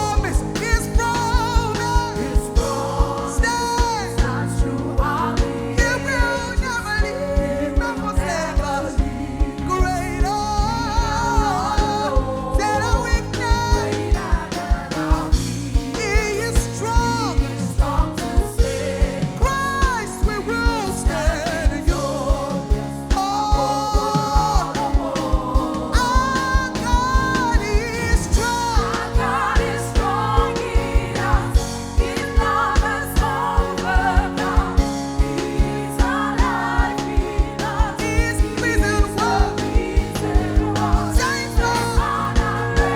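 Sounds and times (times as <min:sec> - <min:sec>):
gospel band with drum beat: 0:00.0 - 0:42.9.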